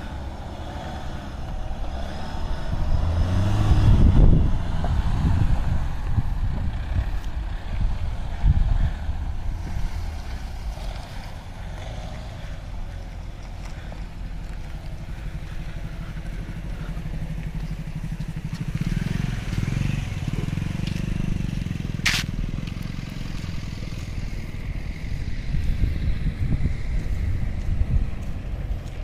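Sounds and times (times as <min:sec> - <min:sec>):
off-road vehicle engine under load: 0:00.0 - 0:29.0.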